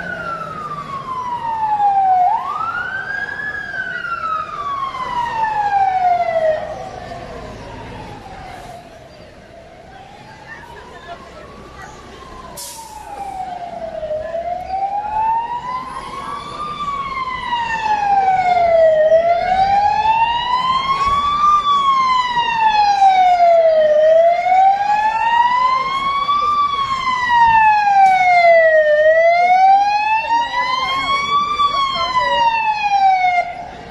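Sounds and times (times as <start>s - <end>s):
fire engine siren wailing: 0.0s - 33.9s.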